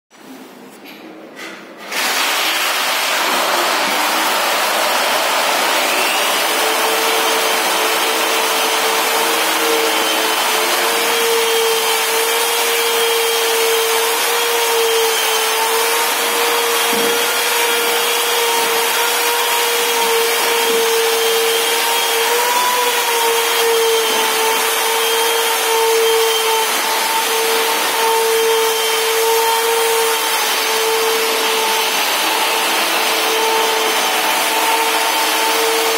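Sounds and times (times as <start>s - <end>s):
angle grinder motor whining: 3.1s - 35.9s.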